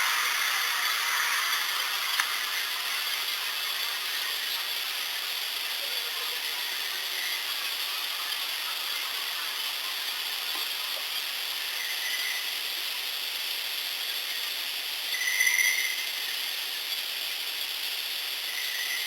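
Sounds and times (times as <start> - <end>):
steady recording hiss: 0.0 - 19.0.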